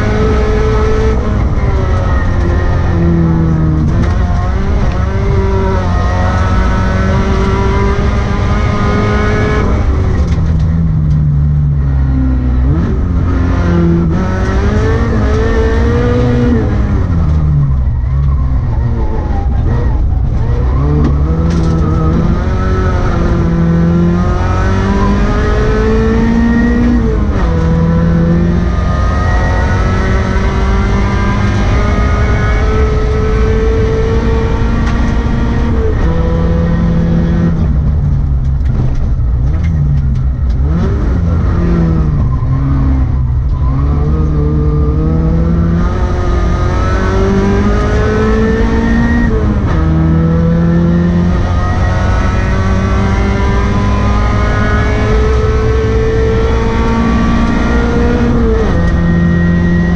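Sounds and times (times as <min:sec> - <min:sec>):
low road rumble: 0:00.0 - 0:59.9
rally car engine revving: 0:00.0 - 0:59.9.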